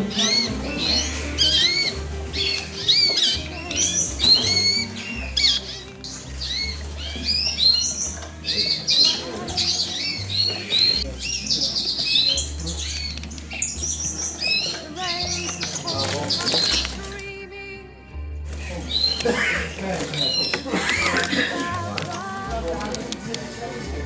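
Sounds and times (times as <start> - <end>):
caged birds chirping and calling: 0.0 - 17.3, 18.5 - 24.0.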